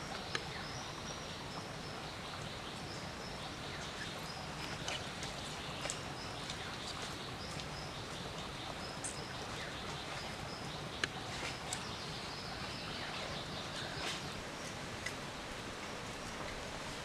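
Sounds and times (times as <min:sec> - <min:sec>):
forest background hiss: 0:00.0 - 0:17.0.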